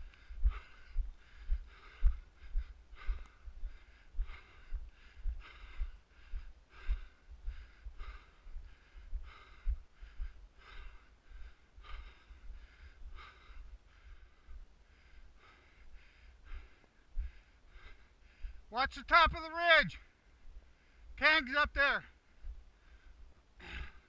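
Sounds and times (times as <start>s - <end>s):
person breathing hard: 0.0s - 18.8s, 20.0s - 21.2s, 22.1s - 24.0s.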